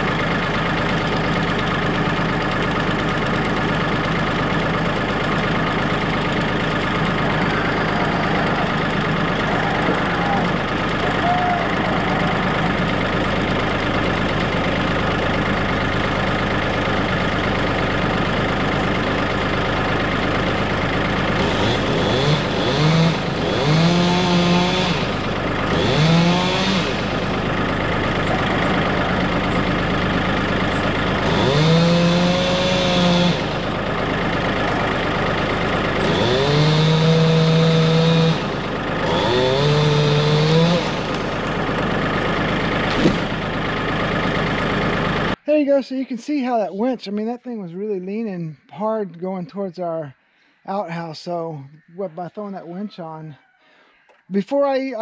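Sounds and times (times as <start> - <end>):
chainsaw revving: 0.0 - 45.4
tractor idling: 0.0 - 55.0.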